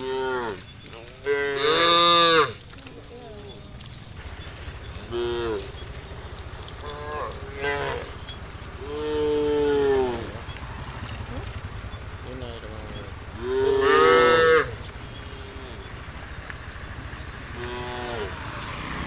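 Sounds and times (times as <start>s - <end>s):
cattle mooing: 0.0s - 0.6s, 1.2s - 2.6s, 4.2s - 19.0s.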